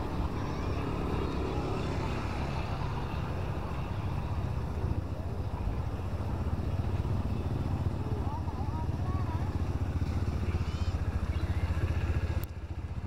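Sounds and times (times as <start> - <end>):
faint voices: 0.0 - 12.4
traffic rumble: 0.0 - 13.0
wind: 0.0 - 13.0.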